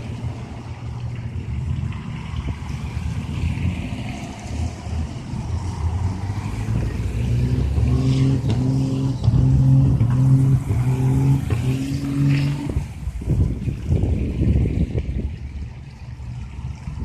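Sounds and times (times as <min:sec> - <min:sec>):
heavy trucks driving past: 0:00.0 - 0:17.0.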